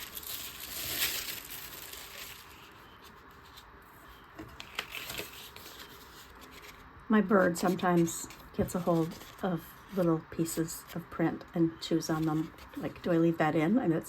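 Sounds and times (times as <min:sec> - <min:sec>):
paper rustling and crinkling: 0:00.0 - 0:11.0, 0:12.1 - 0:13.1.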